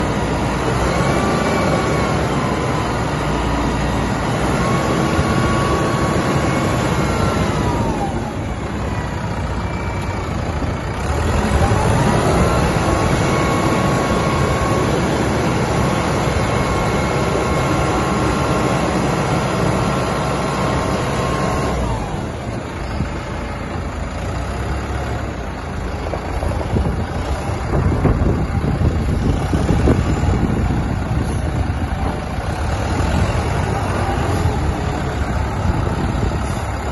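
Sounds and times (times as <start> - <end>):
truck engine revving with whine: 0.0 - 36.9.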